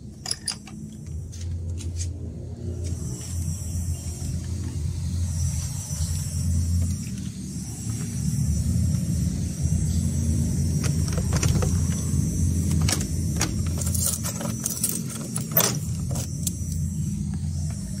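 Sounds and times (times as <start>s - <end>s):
electric fans humming: 0.0s - 18.0s.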